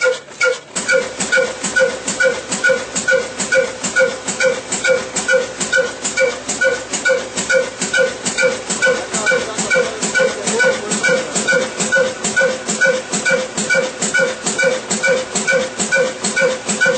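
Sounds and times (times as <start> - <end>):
diesel engine beating with metallic clank: 0.0 - 16.9.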